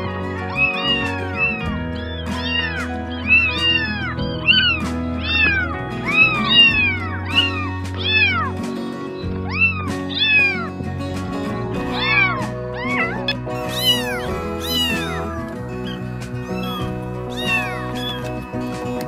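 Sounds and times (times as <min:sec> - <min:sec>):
kittens mewing: 0:00.0 - 0:10.8, 0:11.8 - 0:18.9
background music with low held notes: 0:00.0 - 0:19.0.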